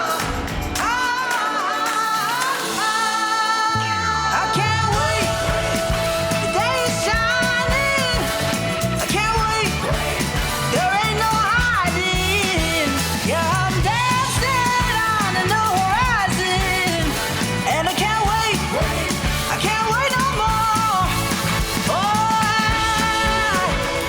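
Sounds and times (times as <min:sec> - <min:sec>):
pop-rock song with singing: 0:00.0 - 0:24.0.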